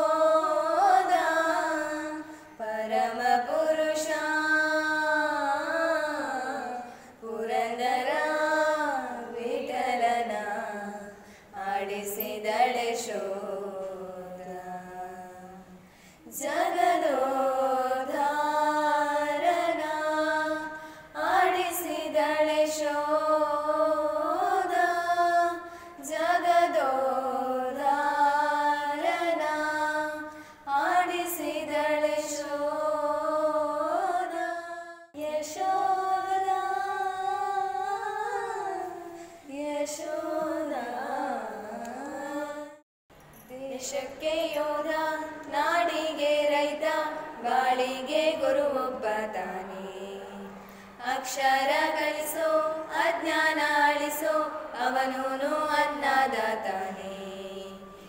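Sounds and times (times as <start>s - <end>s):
women singing slow melody: 0.0s - 58.0s.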